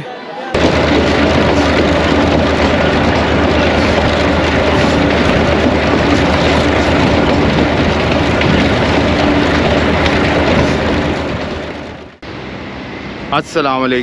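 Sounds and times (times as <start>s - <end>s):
train rumbling: 0.5s - 14.0s
faint engine hum: 0.6s - 14.0s.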